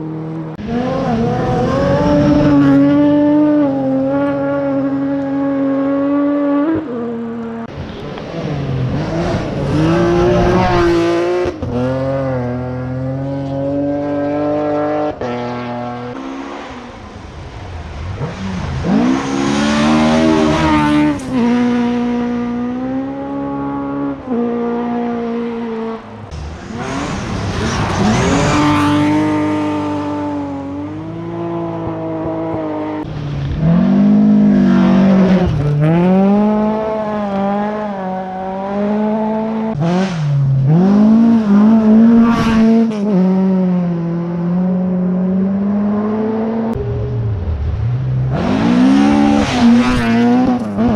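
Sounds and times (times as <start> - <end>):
rally car engines at high revs: 0.0 - 50.9.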